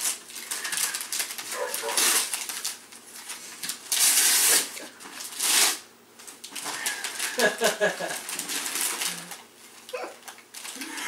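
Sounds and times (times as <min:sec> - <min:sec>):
wrapping paper tearing and crinkling: 0:00.0 - 0:11.0.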